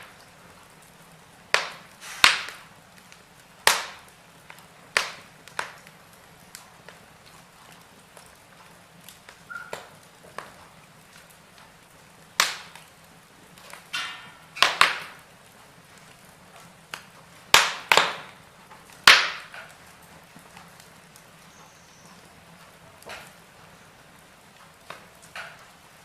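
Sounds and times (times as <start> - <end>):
sharp pops from burning logs: 0.0 - 26.0
wood fire crackling: 0.0 - 26.0.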